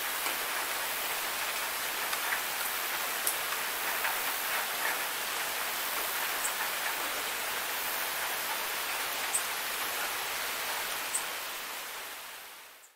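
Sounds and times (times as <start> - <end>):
rain on grass and trees: 0.0 - 12.9.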